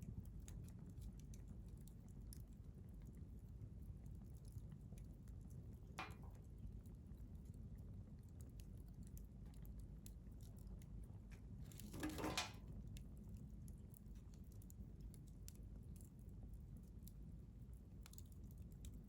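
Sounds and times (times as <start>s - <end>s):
wood fire crackling: 0.1s - 19.0s.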